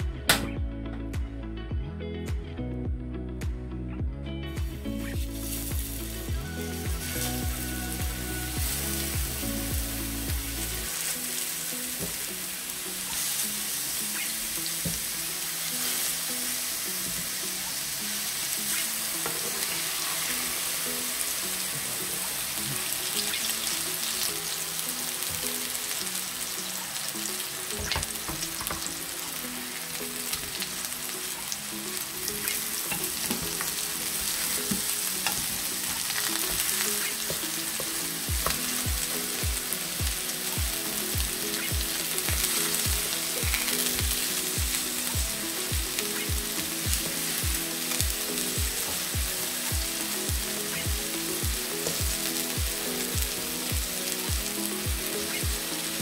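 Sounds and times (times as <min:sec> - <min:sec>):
soft background music: 0:00.0 - 0:56.0
patties sizzling in a frying pan: 0:04.7 - 0:56.0.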